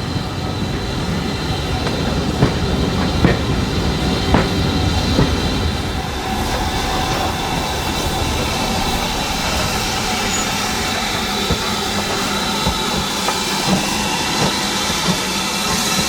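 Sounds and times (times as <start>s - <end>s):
steam train rumbling: 0.0s - 16.0s
wheels clicking over rail joints: 0.0s - 16.0s.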